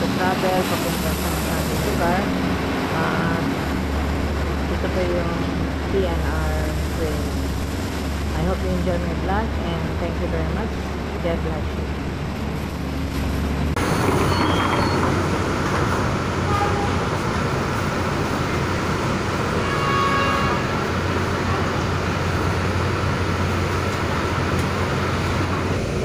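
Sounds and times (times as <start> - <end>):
train running noise: 0.0 - 26.0.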